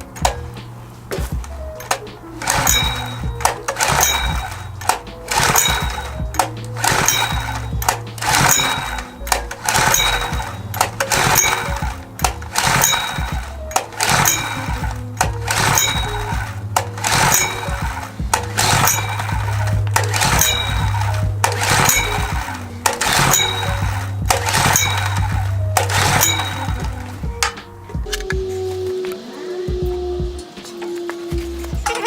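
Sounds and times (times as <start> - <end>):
background music with steady beat: 0.0 - 32.0.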